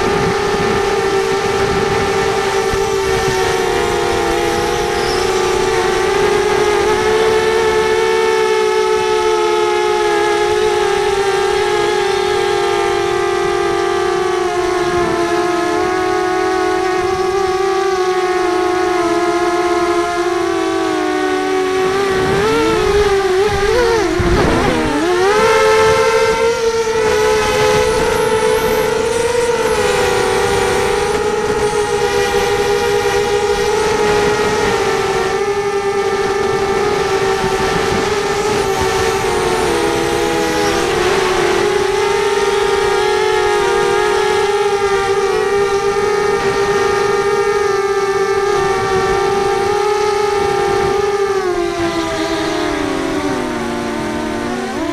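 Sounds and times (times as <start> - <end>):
quadcopter motors whining: 0.0 - 54.9.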